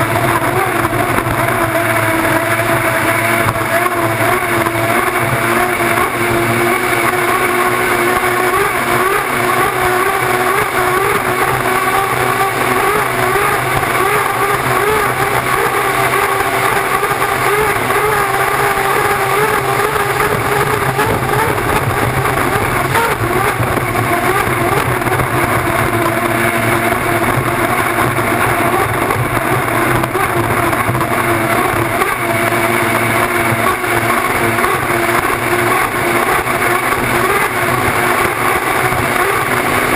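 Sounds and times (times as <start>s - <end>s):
rush of wind and spray: 0.0s - 39.9s
turbine engine whine: 0.0s - 39.9s.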